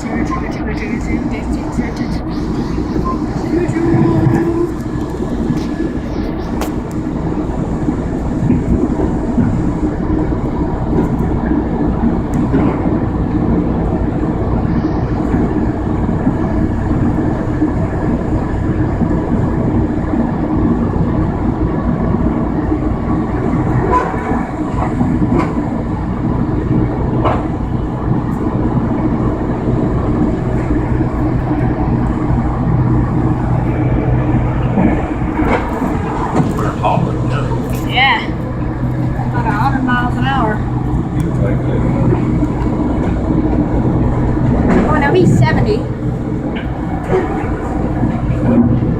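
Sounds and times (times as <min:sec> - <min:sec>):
sharp clacks of train: 0:00.0 - 0:48.9
train wheels rumbling on rails: 0:00.0 - 0:48.9.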